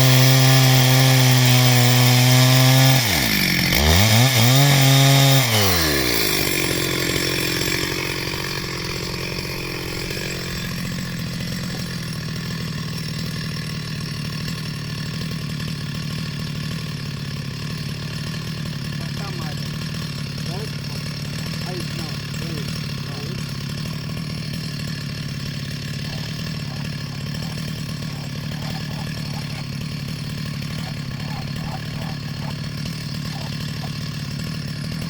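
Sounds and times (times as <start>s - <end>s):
chainsaw cutting timber: 0.0s - 35.0s.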